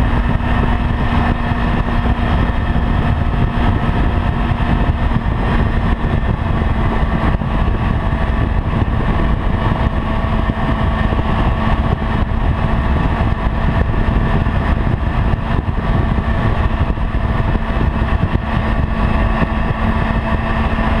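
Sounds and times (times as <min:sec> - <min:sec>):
motorcycle engine cruising: 0:00.0 - 0:21.0
wind rumble on microphone: 0:00.0 - 0:21.0.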